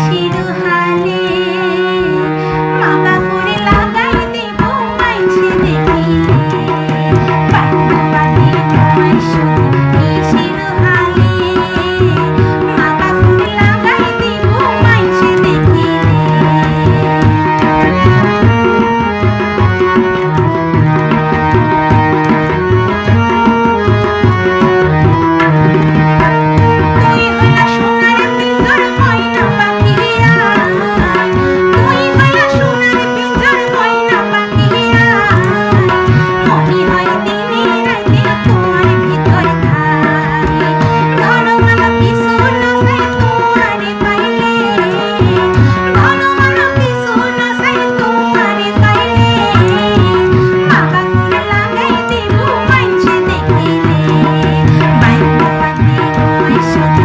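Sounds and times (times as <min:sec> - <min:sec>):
woman singing folk song: 0:00.0 - 0:17.0, 0:25.4 - 0:57.0
held instrument notes: 0:00.0 - 0:57.0
tabla strokes: 0:02.6 - 0:57.0.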